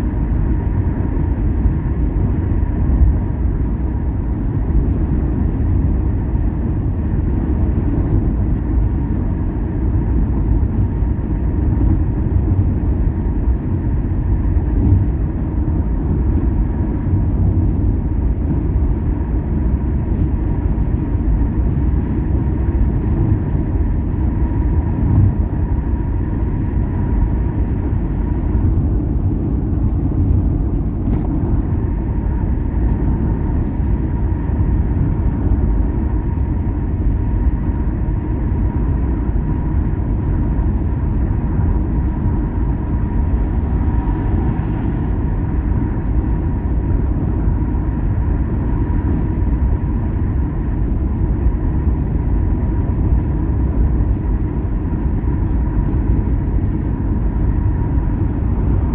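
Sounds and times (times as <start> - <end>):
car driving on highway: 0.0 - 58.9.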